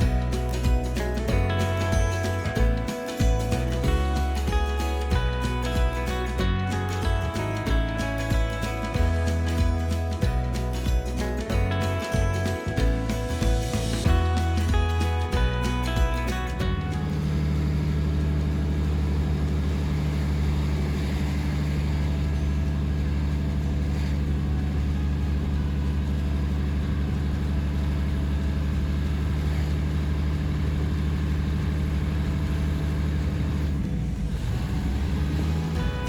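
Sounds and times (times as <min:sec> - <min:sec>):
diesel train engine humming: 0:00.0 - 0:36.0.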